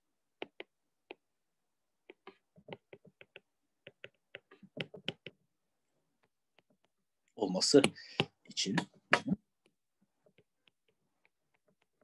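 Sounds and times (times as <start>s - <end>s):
stylus tapping on tablet screen: 0.3s - 12.0s.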